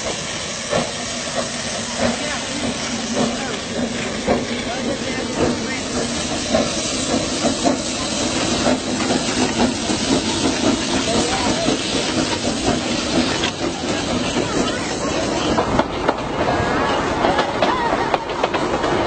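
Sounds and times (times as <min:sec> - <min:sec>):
train passing with loud hiss: 0:00.0 - 0:19.0.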